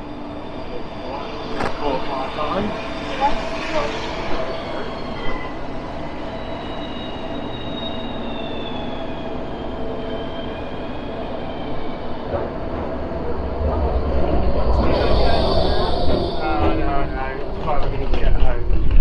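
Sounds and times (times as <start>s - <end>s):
low rumble of train: 0.0s - 19.0s
rail wheels squealing: 0.0s - 19.0s.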